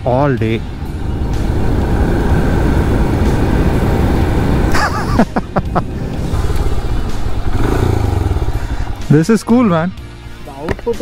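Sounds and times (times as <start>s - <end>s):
motorcycle engine running: 0.0s - 4.8s, 5.4s - 9.5s
wind rush on microphone: 0.0s - 9.2s.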